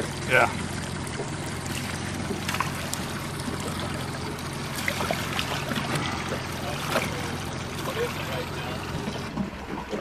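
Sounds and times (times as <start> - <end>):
boat motor humming: 0.0 - 10.0
water trickling and splashing: 0.0 - 10.0.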